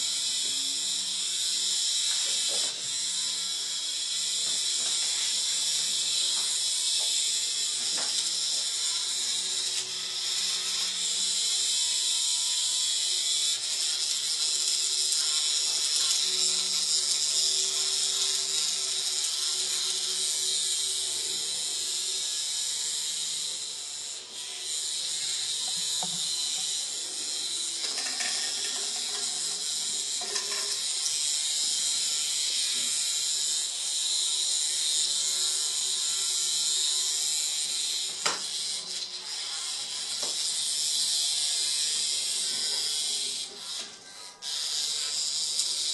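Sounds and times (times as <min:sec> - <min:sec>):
toy vibration motor buzzing: 0:00.0 - 0:45.9.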